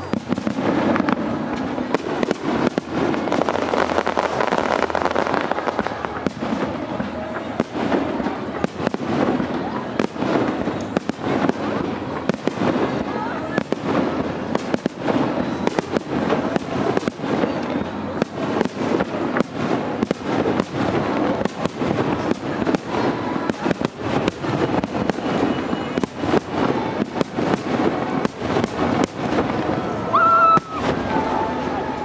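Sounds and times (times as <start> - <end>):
fireworks bangs and crackling: 0.0 - 32.0.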